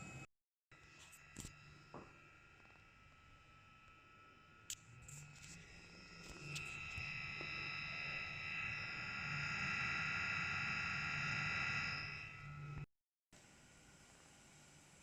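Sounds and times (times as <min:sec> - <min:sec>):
blower turbine high-pitched whine: 0:00.8 - 0:12.9.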